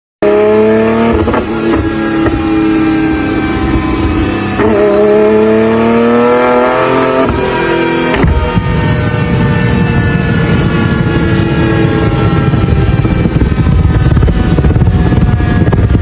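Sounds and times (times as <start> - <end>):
car engine accelerating hard: 0.2 - 16.0.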